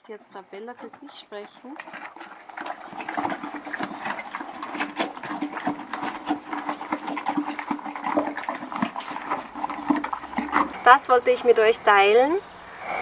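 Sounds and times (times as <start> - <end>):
horse chewing and crunching feed: 0.0 - 12.2.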